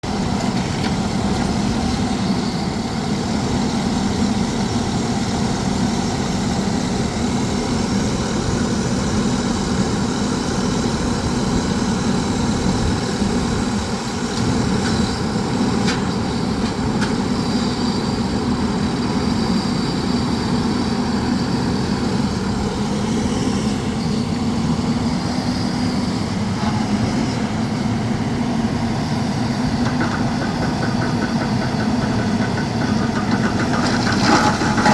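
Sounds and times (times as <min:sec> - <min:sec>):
rock drilling rig running: 0:00.0 - 0:34.9.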